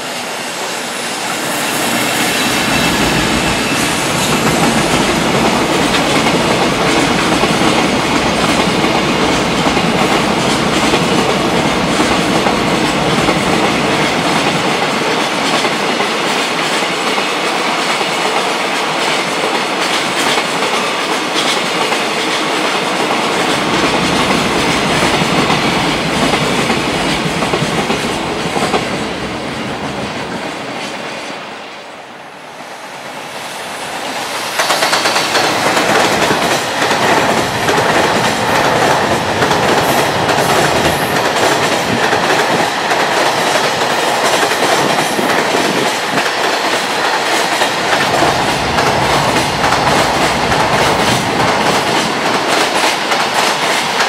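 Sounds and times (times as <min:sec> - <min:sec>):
freight train clattering past: 0:00.0 - 0:54.0
second train passing: 0:00.0 - 0:54.0.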